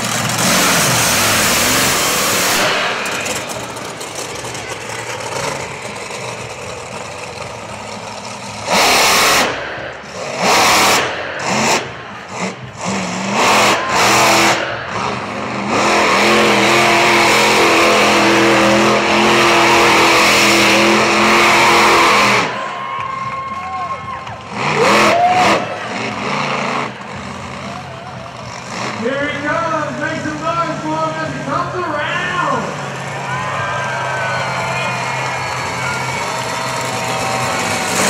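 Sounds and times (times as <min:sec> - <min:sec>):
truck engine revving: 0:00.0 - 0:23.6, 0:24.2 - 0:38.0.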